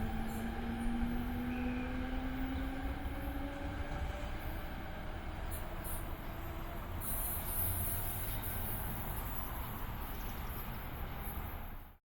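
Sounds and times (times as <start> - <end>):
train rumbling past on tracks: 0.0 - 12.0.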